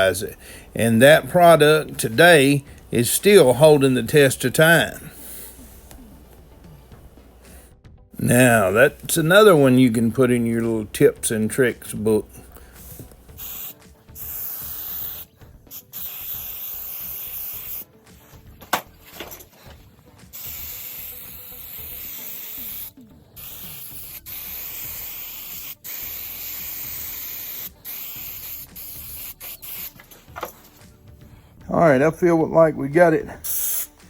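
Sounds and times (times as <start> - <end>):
aerosol can spraying: 0.0 - 7.6, 8.2 - 30.9, 33.4 - 34.0.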